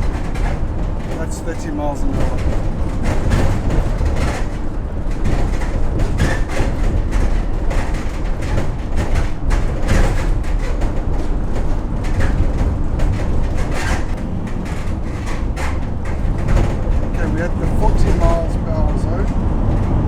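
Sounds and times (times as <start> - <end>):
bodywork knocks and rattles: 0.0 - 20.0
van road and engine rumble: 0.0 - 20.0.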